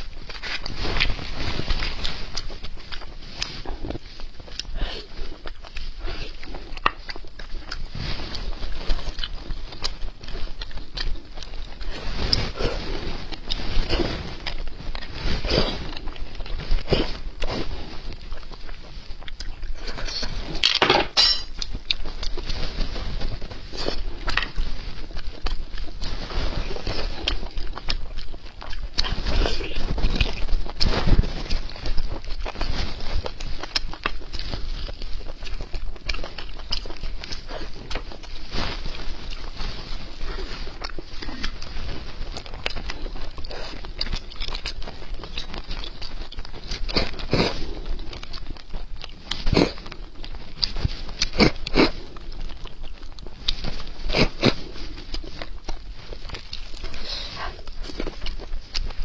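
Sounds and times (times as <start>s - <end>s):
wet chewing and mouth sounds: 0.0s - 20.8s, 21.4s - 59.0s.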